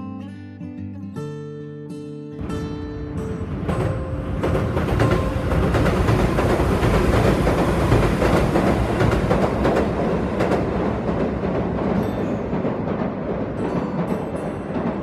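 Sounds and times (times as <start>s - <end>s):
train wheels clacking: 2.5s - 15.0s.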